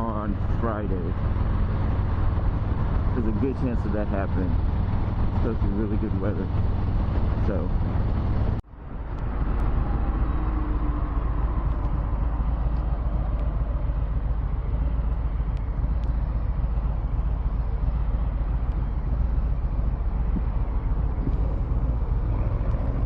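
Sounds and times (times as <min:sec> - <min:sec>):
motorcycle engine rumble: 0:00.0 - 0:23.0
road and wind noise: 0:00.0 - 0:23.0.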